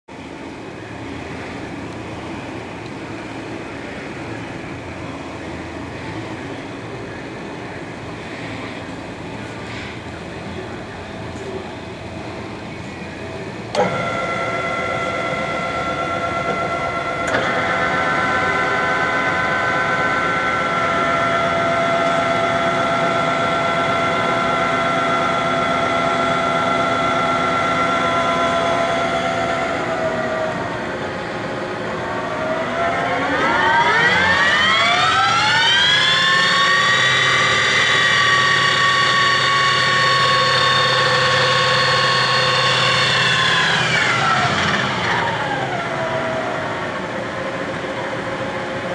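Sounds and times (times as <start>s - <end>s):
lathe gear whine: 0.2s - 48.9s.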